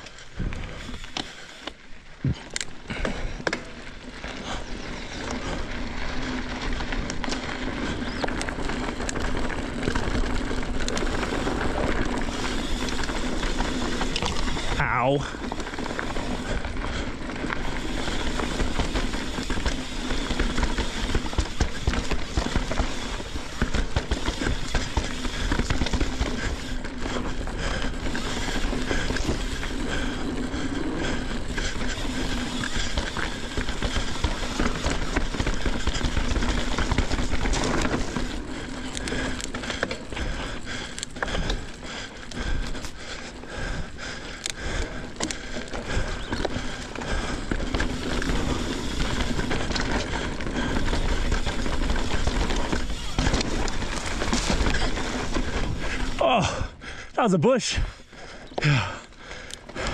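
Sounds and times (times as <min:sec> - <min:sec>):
bike tyres rushing on dirt: 0:00.0 - 0:59.9
bike rattling and knocking: 0:00.3 - 0:57.1, 0:57.9 - 0:59.9.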